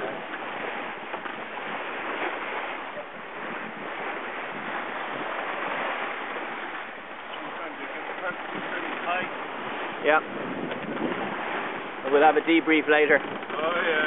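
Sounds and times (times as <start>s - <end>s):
sea water rushing along hull: 0.0s - 14.0s
wind on microphone: 0.0s - 14.0s.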